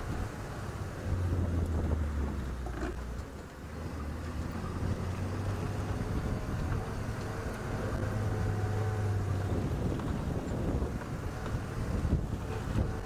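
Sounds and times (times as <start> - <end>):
vehicle engine driving fast: 0.0 - 13.0.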